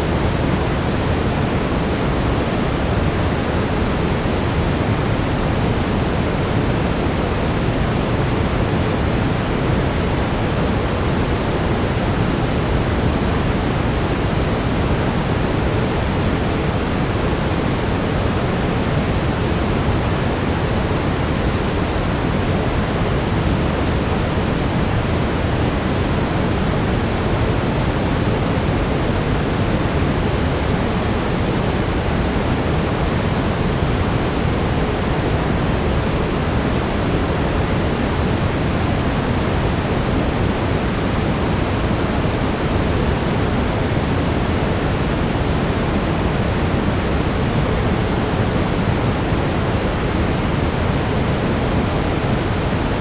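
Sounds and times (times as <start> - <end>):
synthetic brown noise hiss: 0.0 - 53.0.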